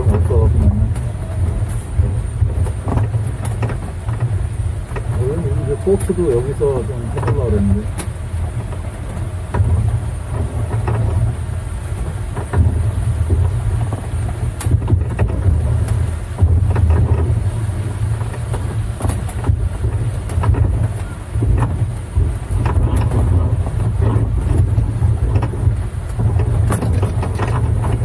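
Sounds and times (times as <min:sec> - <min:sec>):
light rattles and knocks: 0:00.0 - 0:28.0
vehicle rumble over brick paving: 0:00.0 - 0:28.0
wind buffeting microphone: 0:00.0 - 0:28.0.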